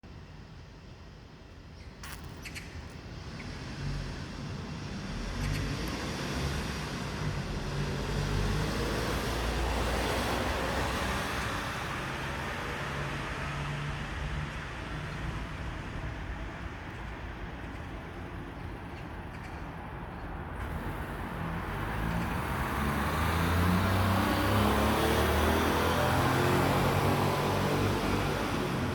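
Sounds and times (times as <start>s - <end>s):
passing vehicle rumble: 3.1s - 28.9s.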